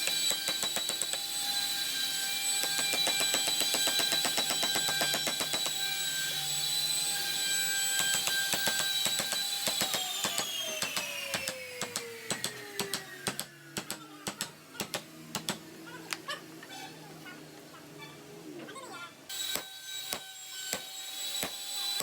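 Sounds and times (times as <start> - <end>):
power tool motor whining: 0.0 - 16.7, 19.3 - 22.0.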